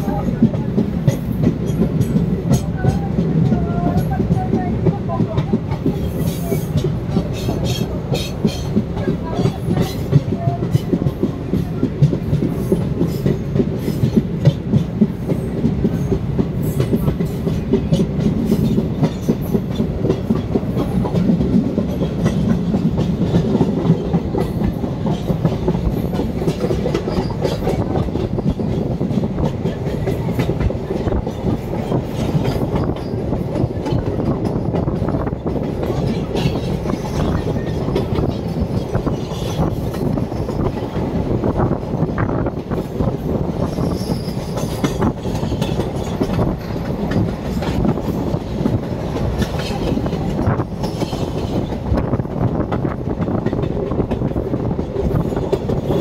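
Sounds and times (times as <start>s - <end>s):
clickety-clack over rail joints: 0.0s - 56.0s
train wheels rumbling on rails: 0.0s - 56.0s.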